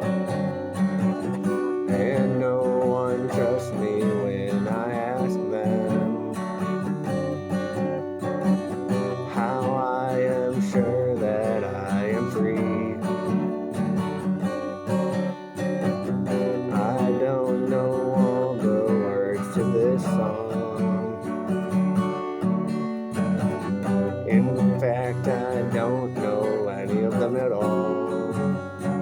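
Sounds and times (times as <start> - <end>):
person singing: 0.0 - 22.5, 23.4 - 29.0
acoustic guitar strumming: 0.0 - 29.0.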